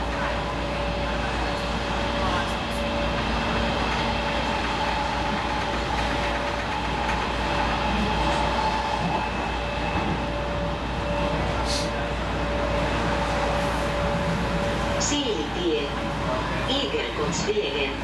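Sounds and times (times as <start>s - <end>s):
train wheels rolling on track: 0.0s - 18.0s.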